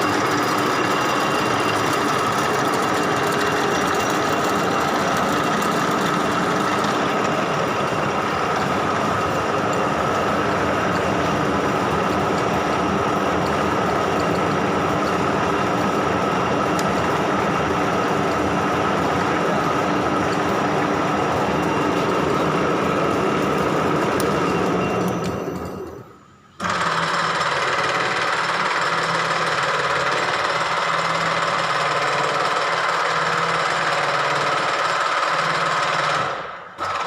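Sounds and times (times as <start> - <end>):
milling machine clatter and whine: 0.0 - 37.0.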